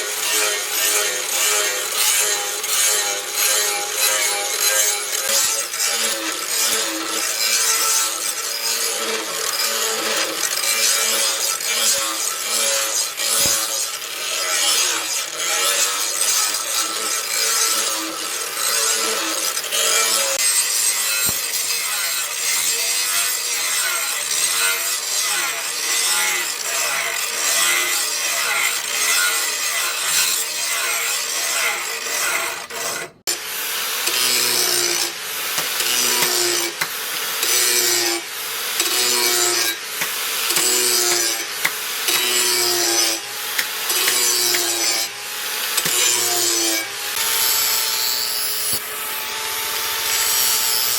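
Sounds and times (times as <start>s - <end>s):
hand tool scraping on steel: 0.0s - 49.2s.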